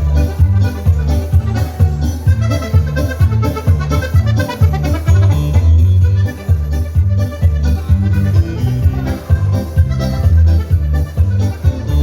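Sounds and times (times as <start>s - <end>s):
accordion dance music: 0.0s - 12.0s.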